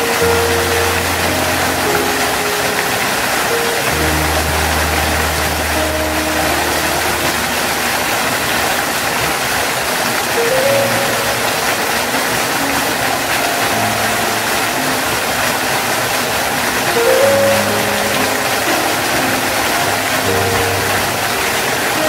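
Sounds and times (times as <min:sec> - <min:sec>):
soft background music: 0:00.0 - 0:22.0
waterfall rushing: 0:00.0 - 0:22.0.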